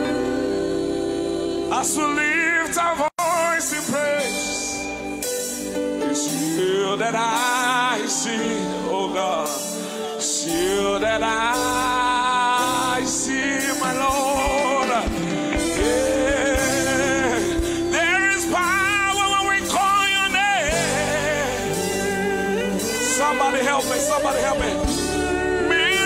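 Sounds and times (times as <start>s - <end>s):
bass guitar: 0.0s - 7.4s, 10.4s - 26.0s
band playing gospel music: 0.0s - 26.0s
man singing with vibrato: 0.0s - 26.0s.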